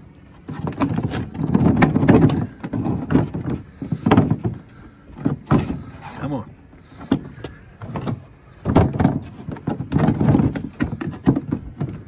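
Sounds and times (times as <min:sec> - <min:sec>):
handling noise: 0:00.2 - 0:06.2, 0:06.8 - 0:12.0.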